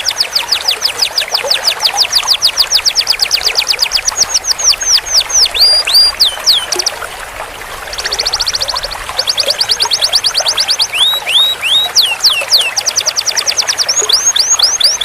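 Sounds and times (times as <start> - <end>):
canary singing: 0.0 - 7.0, 7.9 - 15.0.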